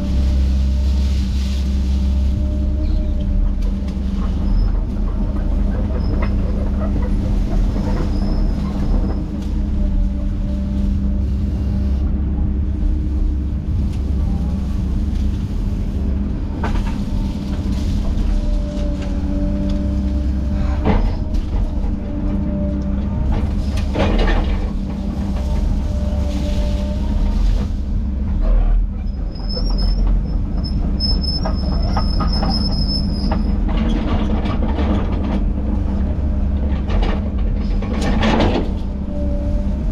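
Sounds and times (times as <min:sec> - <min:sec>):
diesel engine running: 0:00.0 - 0:39.9
metal tracks squealing and clanking: 0:00.0 - 0:39.9.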